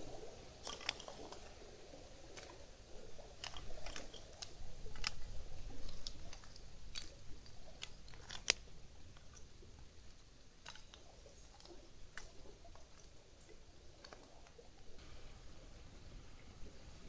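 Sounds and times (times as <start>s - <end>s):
wood crackling and snapping in fire: 0.0s - 15.0s.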